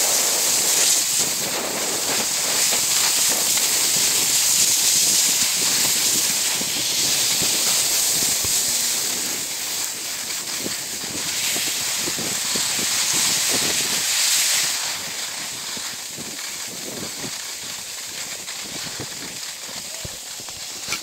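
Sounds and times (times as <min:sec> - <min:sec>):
snowboards scraping over snow: 0:00.0 - 0:21.0.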